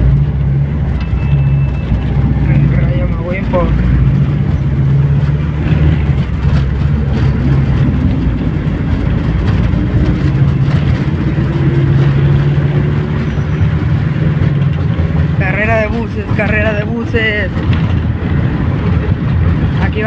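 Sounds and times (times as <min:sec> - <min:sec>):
diesel bus engine accelerating: 0:00.0 - 0:20.0.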